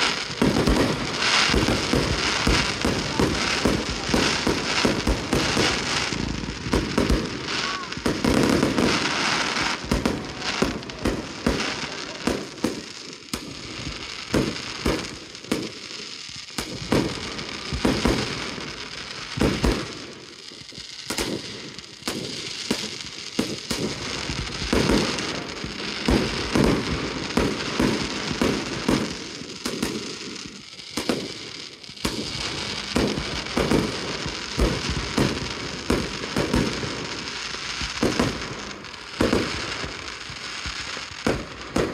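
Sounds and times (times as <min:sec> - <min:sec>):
fireworks bangs: 0:00.0 - 0:41.9
fireworks crackling: 0:00.0 - 0:41.9.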